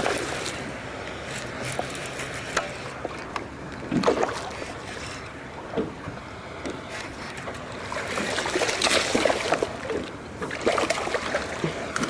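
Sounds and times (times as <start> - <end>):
water splashing around a boat: 0.0 - 12.0.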